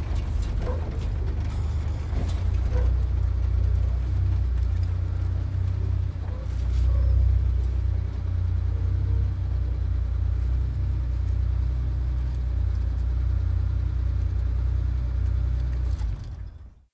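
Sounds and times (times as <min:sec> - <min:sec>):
sports car engine rumble: 0:00.0 - 0:16.9.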